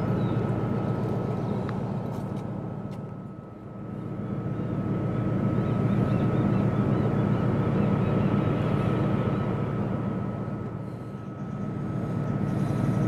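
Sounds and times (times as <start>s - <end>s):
ship engine rumble: 0.0s - 13.0s.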